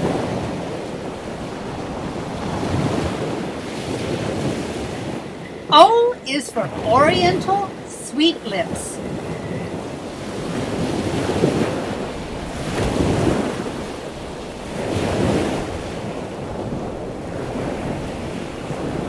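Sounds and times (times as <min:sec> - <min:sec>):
ocean waves washing: 0:00.0 - 0:19.0.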